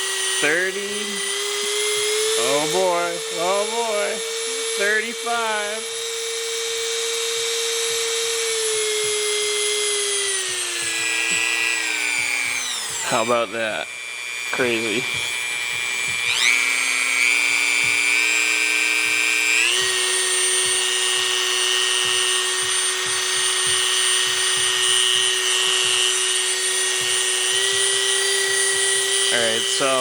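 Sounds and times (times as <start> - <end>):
rotary tool whining: 0.0 - 30.0.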